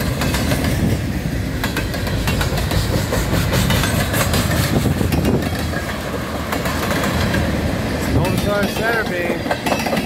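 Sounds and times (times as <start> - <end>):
train wheels rumbling on rails: 0.0 - 10.0
wheels clicking and rattling: 1.6 - 10.0.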